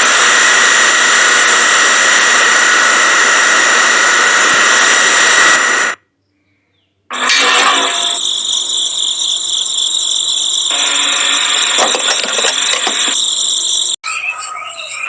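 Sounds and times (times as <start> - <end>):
loud high-pitched whine: 0.0 - 6.0, 7.1 - 15.0.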